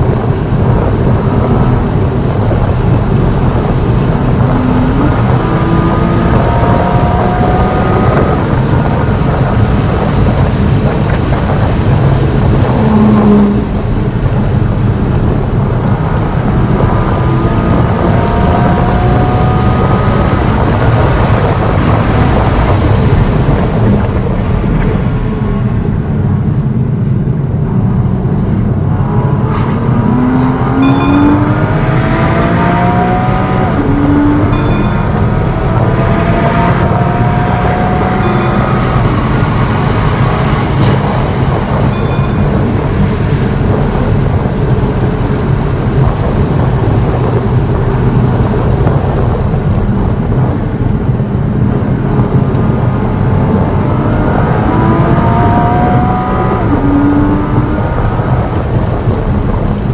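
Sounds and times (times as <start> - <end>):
sports car engine accelerating: 0.0 - 59.9
tyre and wind noise: 0.0 - 59.9.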